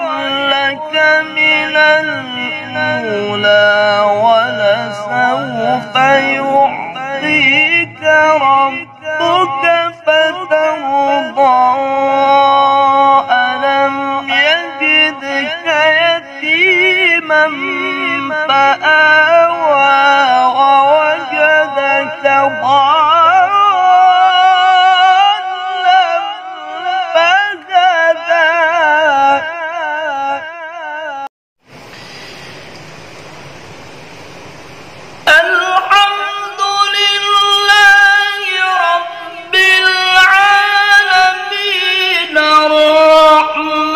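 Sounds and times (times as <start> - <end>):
man chanting with vibrato: 0.0 - 31.3, 35.3 - 43.9.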